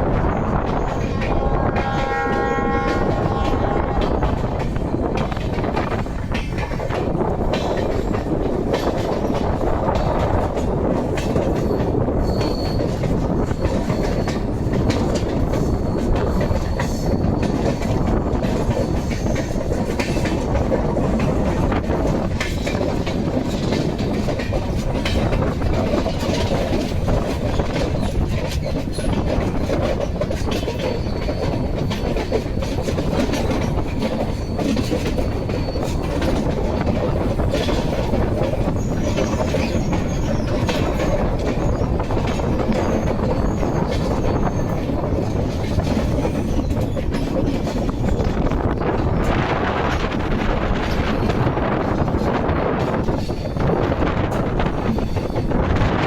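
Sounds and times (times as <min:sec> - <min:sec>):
train clicks and knocks: 0:00.0 - 0:56.0
train rumbling: 0:00.0 - 0:56.0.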